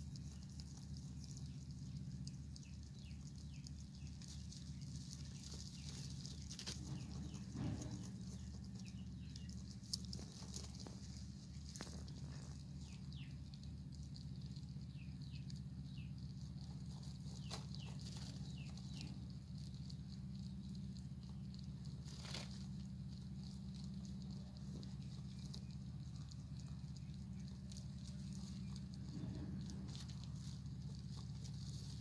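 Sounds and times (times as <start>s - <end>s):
rabbits rustling in dry hay: 0.0s - 32.0s
steady low hum: 0.0s - 32.0s.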